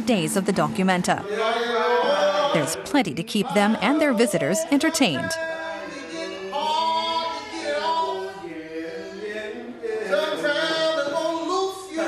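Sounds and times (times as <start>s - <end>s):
voices singing together: 0.0s - 12.0s.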